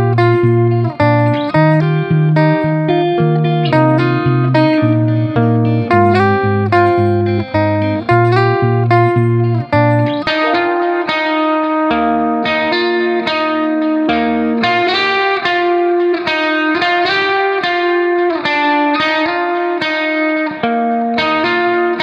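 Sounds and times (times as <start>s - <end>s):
plucked guitar melody: 0.0s - 22.0s.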